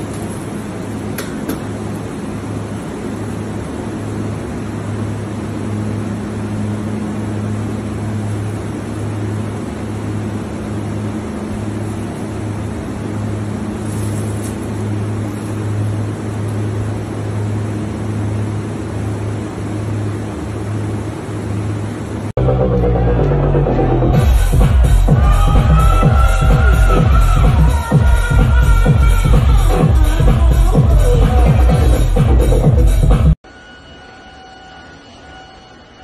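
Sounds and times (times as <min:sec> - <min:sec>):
wash of noise: 0:00.0 - 0:33.3
low hum and rumble: 0:00.0 - 0:33.4.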